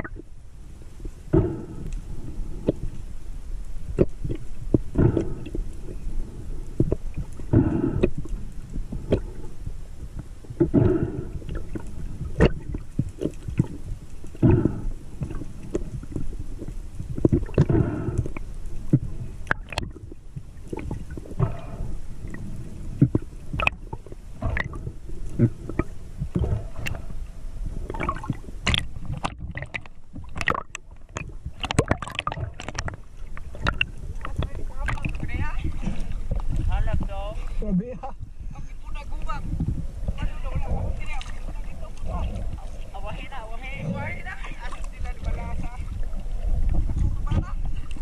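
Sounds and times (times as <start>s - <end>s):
water sloshing and gurgling: 0.0s - 48.0s
water swish: 0.0s - 48.0s.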